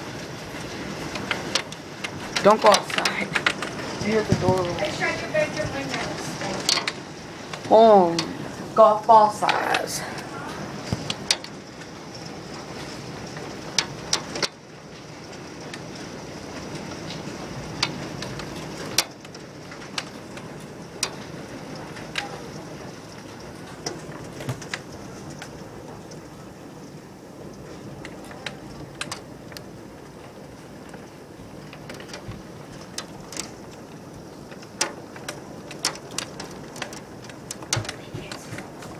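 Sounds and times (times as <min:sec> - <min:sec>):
hailstones knocking on hard surfaces: 0:00.0 - 0:38.9
heavy rain hiss: 0:00.0 - 0:38.9.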